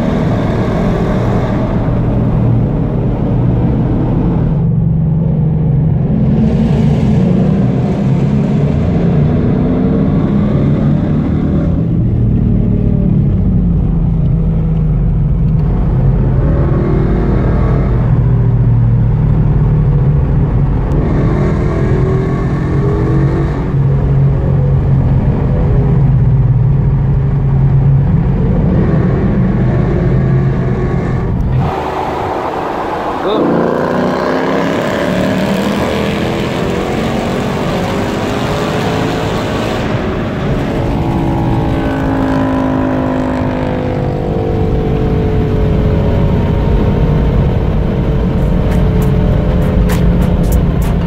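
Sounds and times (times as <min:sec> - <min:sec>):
car engines droning in a tunnel: 0:00.0 - 0:51.0.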